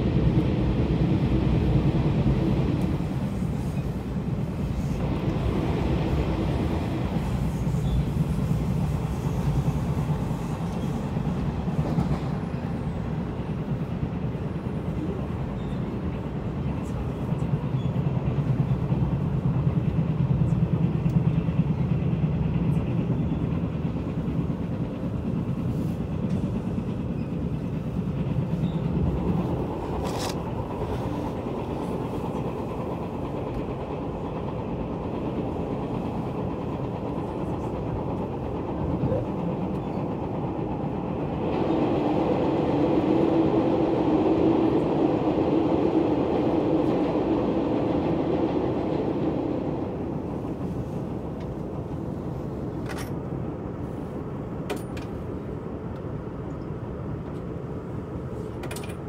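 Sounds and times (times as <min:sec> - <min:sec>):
train running inside coach: 0:00.0 - 0:59.0.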